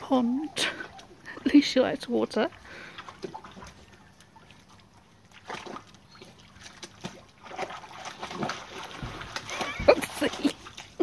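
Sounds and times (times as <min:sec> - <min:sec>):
puppy splashing in water: 0:00.0 - 0:11.0.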